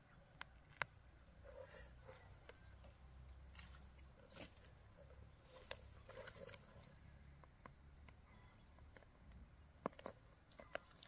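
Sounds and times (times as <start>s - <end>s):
rustles: 0.4s - 11.0s.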